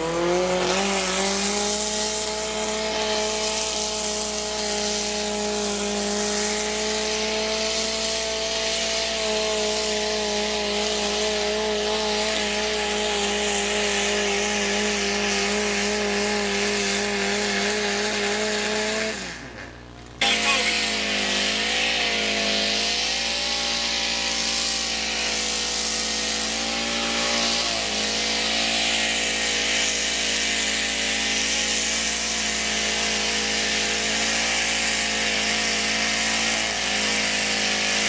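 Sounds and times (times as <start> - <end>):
rush of tyres on dirt: 0.0 - 38.0
tractor engine at full throttle: 0.0 - 38.0.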